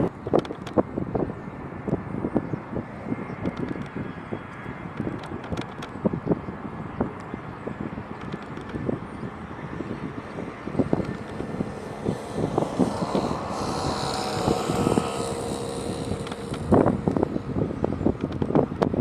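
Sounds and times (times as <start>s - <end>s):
jet engine with high whine: 0.0s - 19.0s
wind buffeting microphone: 0.0s - 19.0s.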